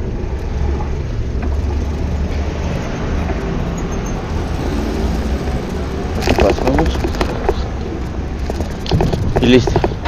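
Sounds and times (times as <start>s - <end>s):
street traffic rumble: 0.0s - 10.0s
wind noise: 0.0s - 10.0s.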